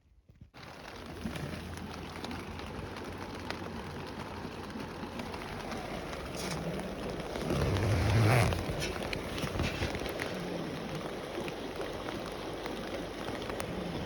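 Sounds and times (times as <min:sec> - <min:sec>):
campfire hissing and crackling: 0:00.6 - 0:14.0.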